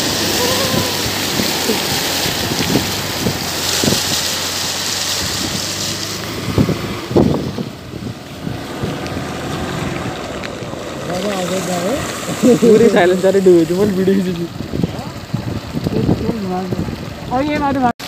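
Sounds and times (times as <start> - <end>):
floodwater rushing and spraying: 0.0 - 18.0
water splashes: 0.0 - 18.0.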